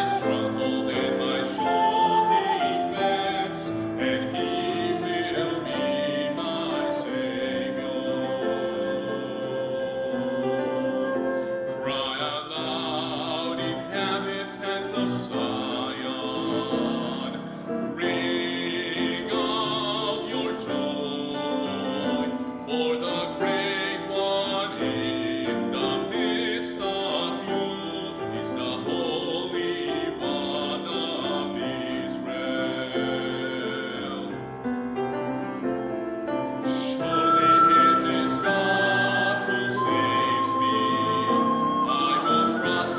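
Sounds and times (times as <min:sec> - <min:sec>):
person singing a hymn: 0:00.0 - 0:42.9
piano accompaniment: 0:00.0 - 0:42.9.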